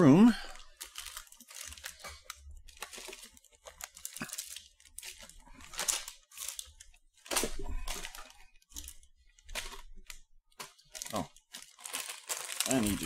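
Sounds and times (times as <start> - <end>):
plastic wrappers crinkling: 0.2 - 13.0.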